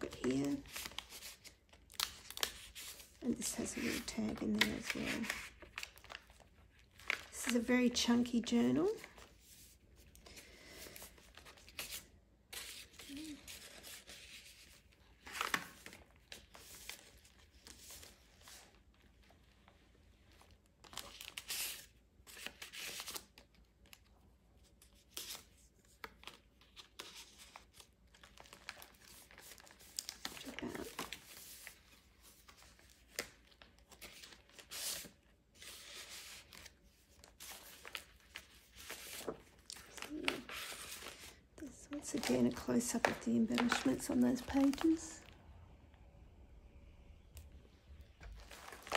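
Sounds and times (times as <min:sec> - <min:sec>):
paper rustling and page turning: 0:00.0 - 0:45.4, 0:48.0 - 0:48.9.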